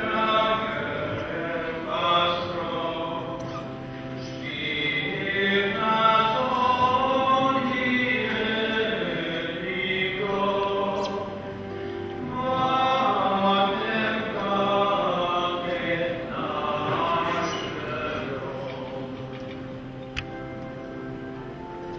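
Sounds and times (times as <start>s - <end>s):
voices singing a slow hymn: 0.0s - 21.8s.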